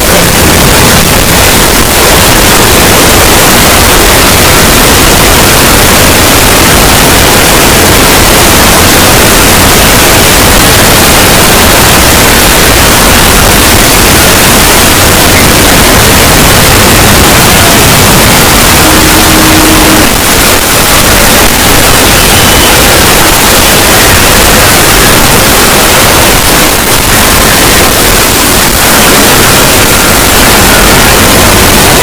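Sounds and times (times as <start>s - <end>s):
harsh clipped static: 0.0s - 32.0s.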